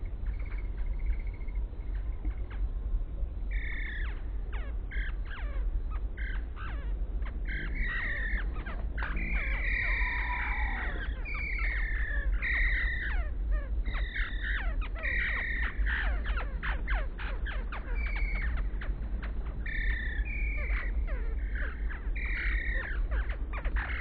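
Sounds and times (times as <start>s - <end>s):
slowed hummingbird chirps: 0.0s - 24.0s.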